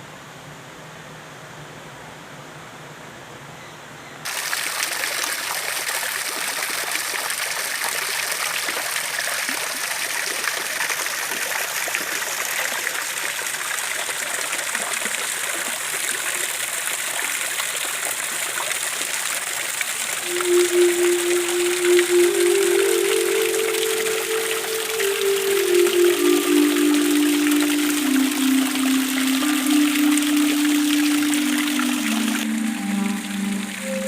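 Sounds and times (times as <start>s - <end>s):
stream water rushing: 4.3s - 34.0s.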